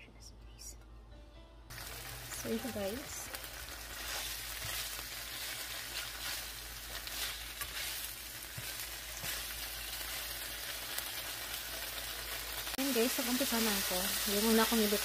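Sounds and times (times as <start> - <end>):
tofu sizzling in hot oil: 1.7 - 15.0.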